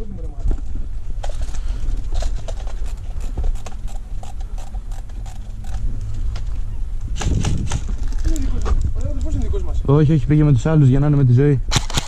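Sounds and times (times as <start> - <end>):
crunching footsteps: 0.0 - 9.8
wind rumble on microphone: 0.0 - 12.0.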